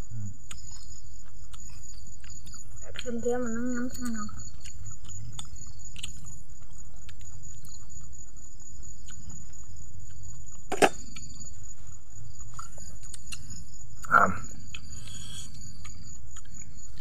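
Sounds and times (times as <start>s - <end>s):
insects calling: 0.0s - 17.0s.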